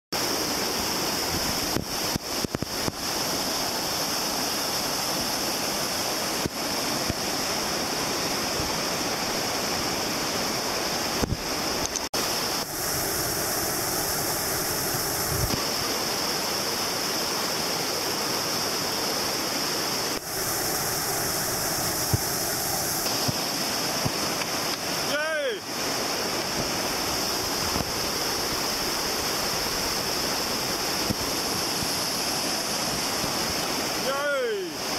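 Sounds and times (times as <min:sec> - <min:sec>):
river rapids rushing: 0:00.2 - 0:34.9.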